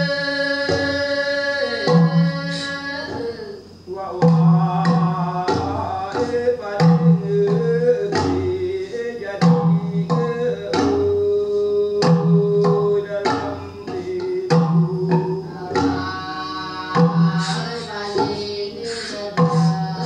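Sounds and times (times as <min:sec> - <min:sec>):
person singing long held notes: 0:00.0 - 0:20.0.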